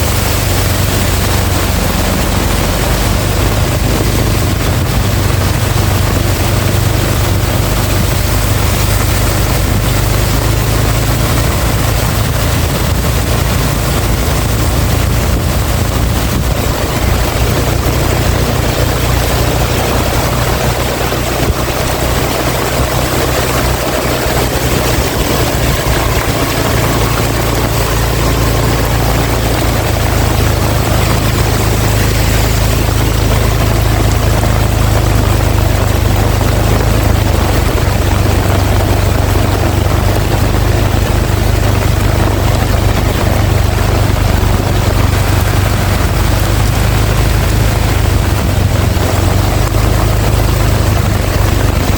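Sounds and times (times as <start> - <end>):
heavy rain hissing: 0.0 - 51.9
wind rumbling: 0.0 - 51.9.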